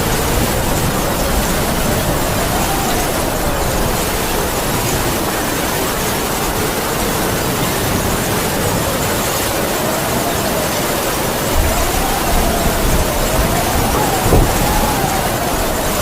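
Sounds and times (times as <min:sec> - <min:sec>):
heavy rain falling: 0:00.0 - 0:16.0
wind howling and moaning: 0:00.0 - 0:16.0.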